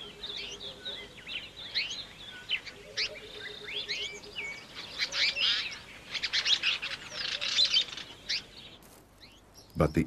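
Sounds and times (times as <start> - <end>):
songbirds chirping and trilling: 0.0 - 10.0.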